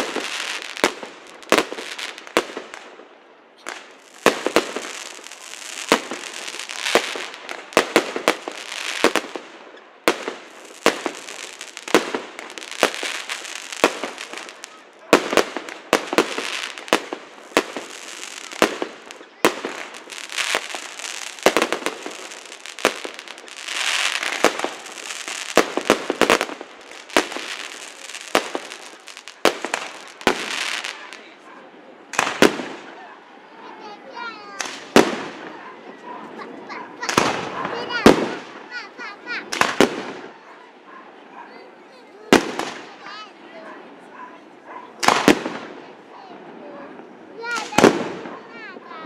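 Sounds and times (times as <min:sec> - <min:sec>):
fireworks bangs: 0:00.0 - 0:31.5, 0:32.1 - 0:49.0
fireworks crackling and hissing: 0:00.0 - 0:49.0.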